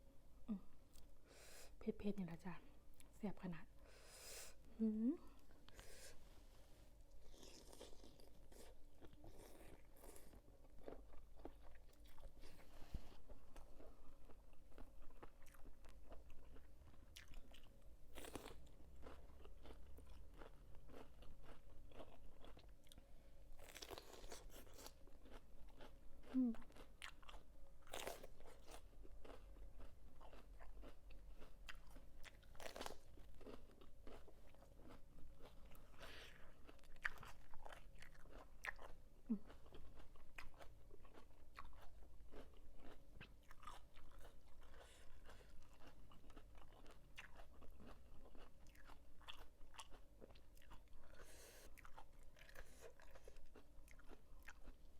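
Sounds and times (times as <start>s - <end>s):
chewing and crunching: 7.1s - 54.9s.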